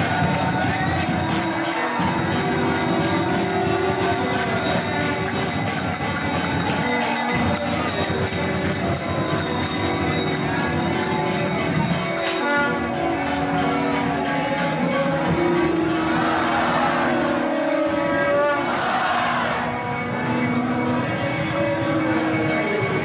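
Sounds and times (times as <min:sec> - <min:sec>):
hand cymbals jingling: 0:00.0 - 0:23.0.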